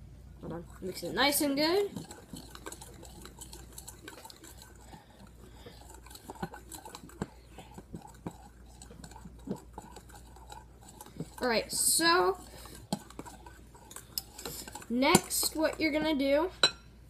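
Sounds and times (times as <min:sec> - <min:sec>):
spoon scraping slime: 0:00.4 - 0:16.8.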